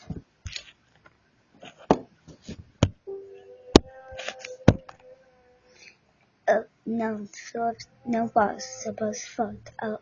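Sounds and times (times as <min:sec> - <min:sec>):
faint steady hum-like tone: 0:00.0 - 0:10.0.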